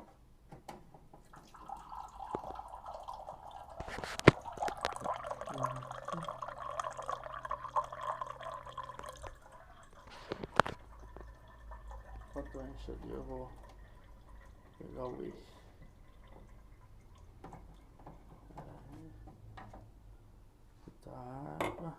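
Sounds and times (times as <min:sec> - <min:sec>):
tap water filling cup: 0:01.2 - 0:19.9.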